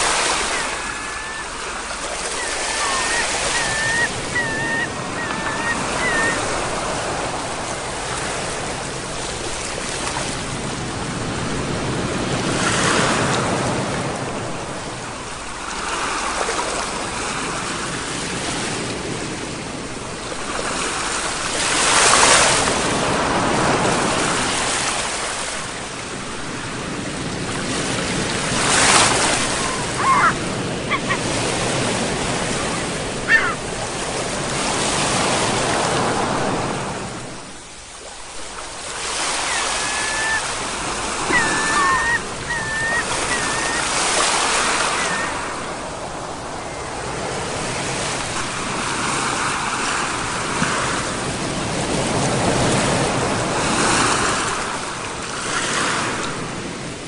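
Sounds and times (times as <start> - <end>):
large waves breaking: 0.0 - 57.0
ocean surf washing onto shore: 0.0 - 57.0.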